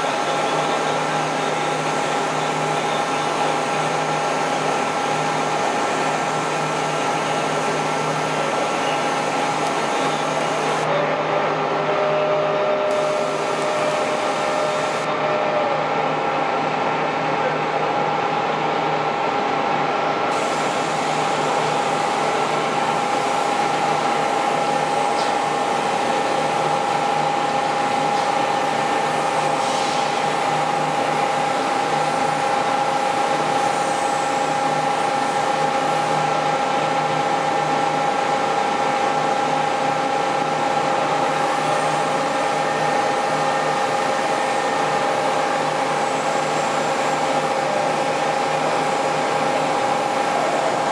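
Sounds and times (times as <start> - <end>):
milling machine humming and whining: 0.0 - 50.9.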